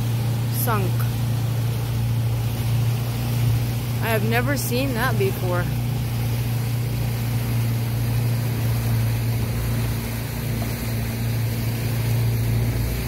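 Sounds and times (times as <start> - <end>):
motorboat engine running: 0.0 - 13.0
water noise: 0.0 - 13.0
wind: 0.0 - 13.0.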